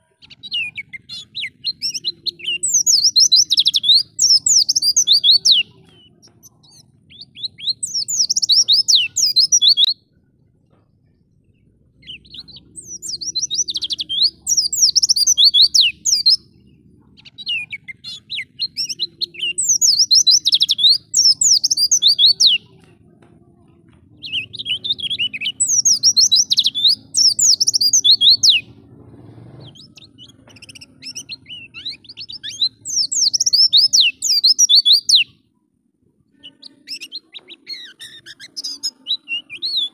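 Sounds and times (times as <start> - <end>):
white-eye bird singing: 0.0 - 10.4, 11.0 - 23.0, 24.2 - 28.9, 29.6 - 35.5, 36.2 - 39.9.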